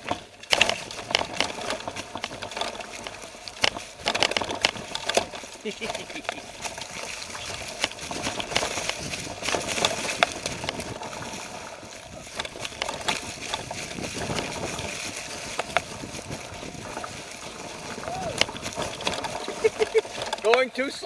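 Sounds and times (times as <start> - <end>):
bike clicks and rattles: 0.0 - 21.0
bike rolling over dry leaves: 0.0 - 21.0.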